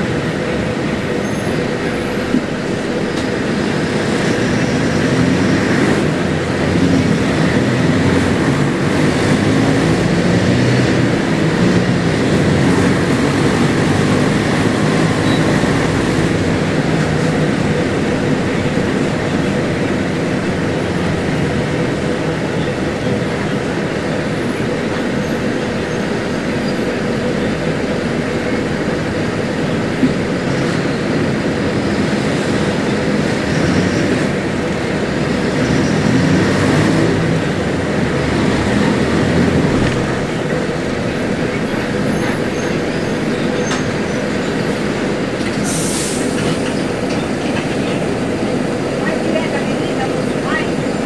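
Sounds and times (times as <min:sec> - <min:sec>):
bus diesel engine roaring: 0:00.0 - 0:51.0.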